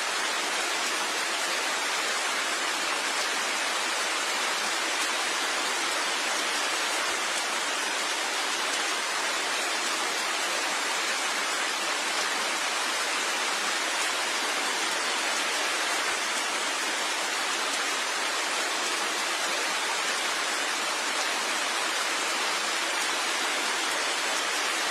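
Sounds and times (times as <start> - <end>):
rain falling steadily: 0.0 - 24.9.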